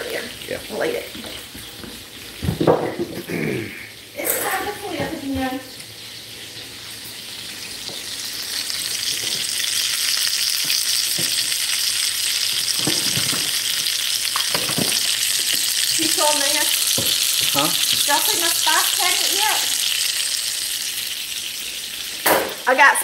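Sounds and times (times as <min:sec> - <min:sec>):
onion rings sizzling in oil: 0:00.0 - 0:23.0.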